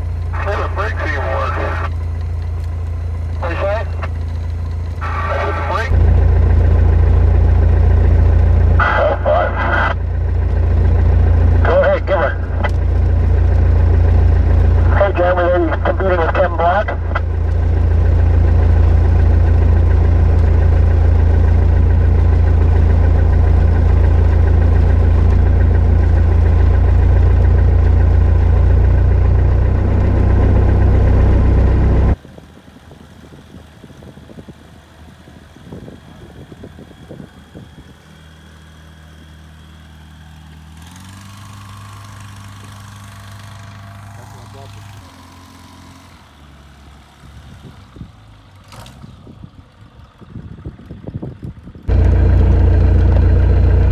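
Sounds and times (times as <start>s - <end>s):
engine hum: 0.0s - 53.9s
vehicle engine rumble: 0.0s - 53.9s.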